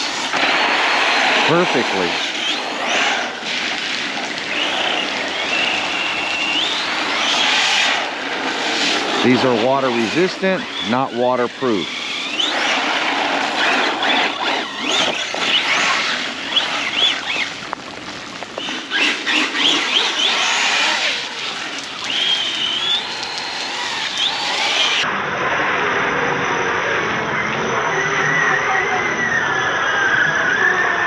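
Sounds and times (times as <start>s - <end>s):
tyres spraying on wet pavement: 0.0s - 25.0s
electric motor whining: 0.0s - 25.1s.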